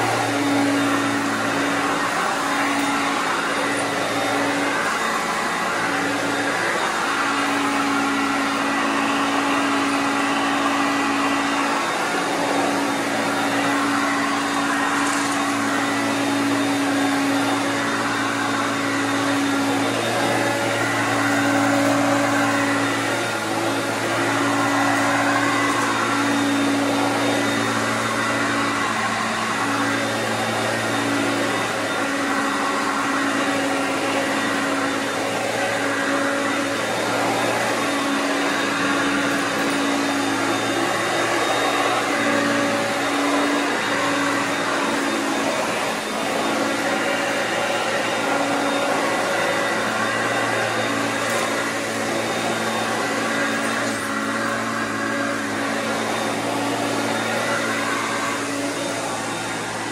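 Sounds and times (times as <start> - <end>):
upright vacuum cleaner running: 0.0 - 59.9.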